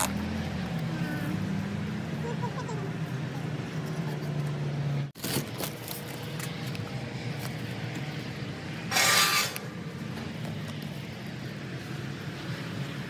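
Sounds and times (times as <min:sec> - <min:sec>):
traffic hum: 0:00.0 - 0:13.0.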